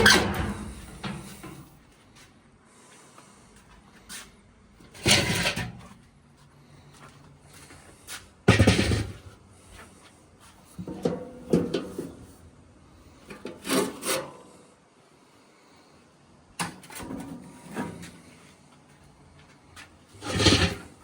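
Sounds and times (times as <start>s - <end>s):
handling noises rubbing and scraping: 0.0s - 14.7s, 16.8s - 21.0s.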